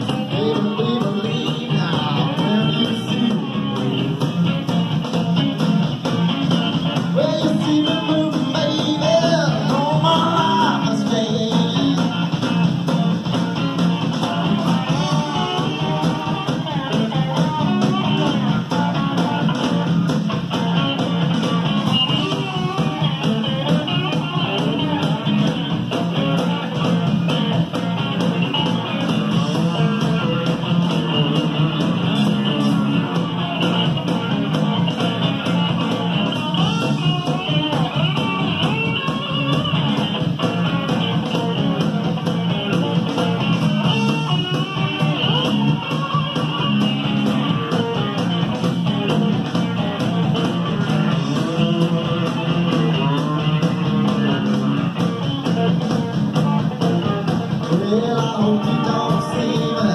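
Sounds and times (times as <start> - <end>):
band music over loudspeakers: 0.0 - 59.9.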